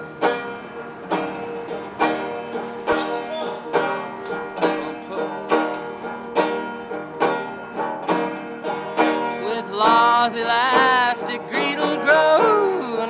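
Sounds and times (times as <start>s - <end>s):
plucked string instrument strumming: 0.0s - 13.0s.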